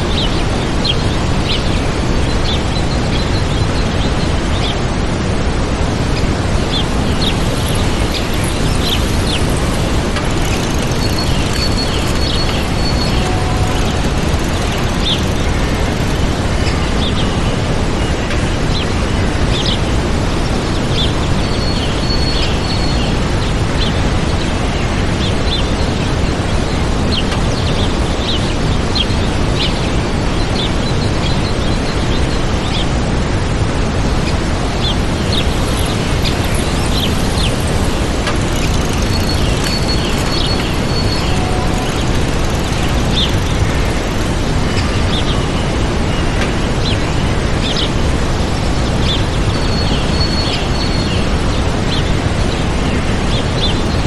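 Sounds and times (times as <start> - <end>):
waterfall rushing: 0.0 - 21.4, 23.2 - 54.0
small birds chirping: 6.1 - 33.0, 34.2 - 54.0.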